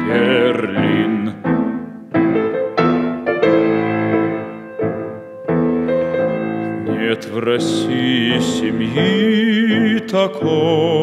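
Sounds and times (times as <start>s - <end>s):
grand piano chords: 0.0s - 11.0s.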